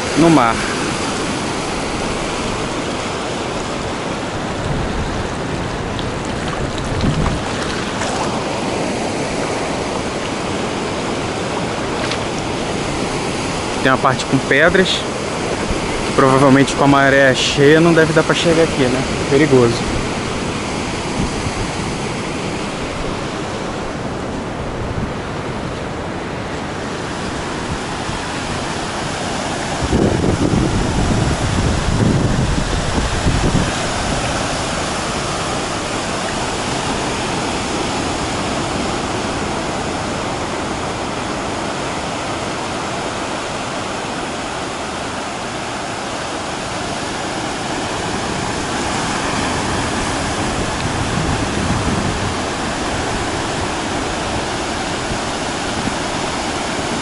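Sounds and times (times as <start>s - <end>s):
ocean surf washing onto beach: 0.0s - 57.0s.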